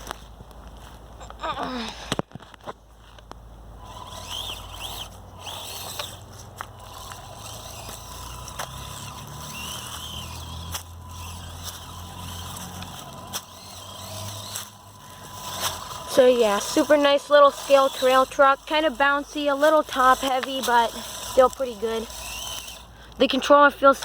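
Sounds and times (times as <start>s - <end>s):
electric motor and gears whining: 0.0s - 24.0s
scattered clicks: 4.1s - 24.0s.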